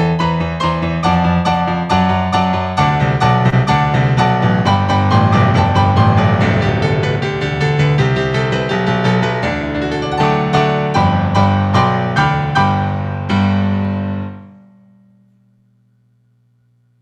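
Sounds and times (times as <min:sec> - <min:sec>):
piano chords: 0:00.0 - 0:15.6.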